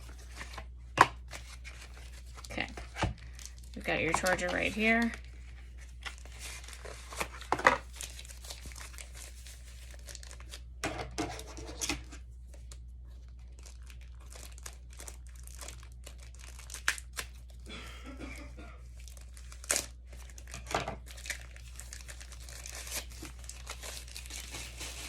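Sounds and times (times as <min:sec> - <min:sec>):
packaging crinkling and rustling: 0:00.0 - 0:17.6, 0:18.9 - 0:25.0.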